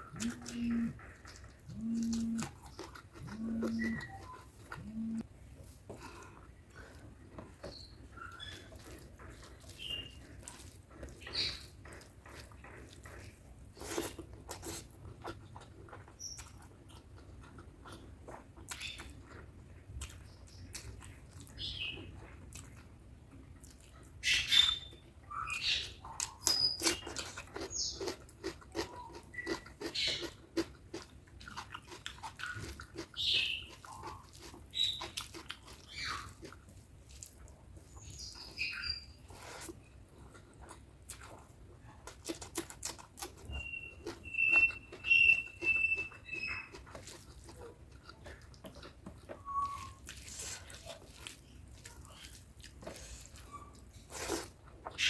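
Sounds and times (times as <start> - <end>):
close-miked chewing with mouth clicks: 0.0 - 55.0.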